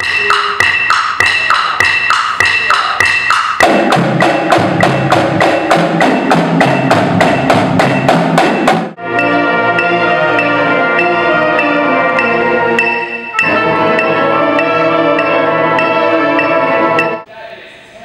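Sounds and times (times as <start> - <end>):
lower pitched drums: 0.0 - 17.3
marching band percussion: 0.0 - 17.3.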